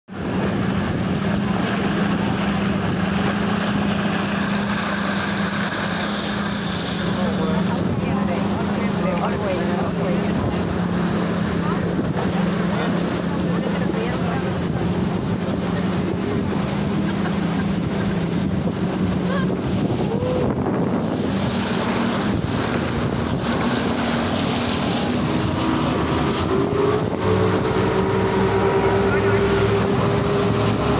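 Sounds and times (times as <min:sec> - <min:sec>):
speedboat engine drone: 0:00.1 - 0:30.9
water rushing past hull: 0:00.1 - 0:30.9
wind buffeting microphone: 0:00.1 - 0:30.9.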